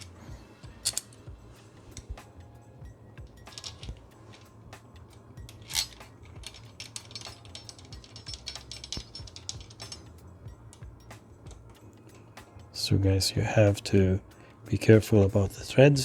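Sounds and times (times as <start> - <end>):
small metal parts clinking: 0.0 - 12.8.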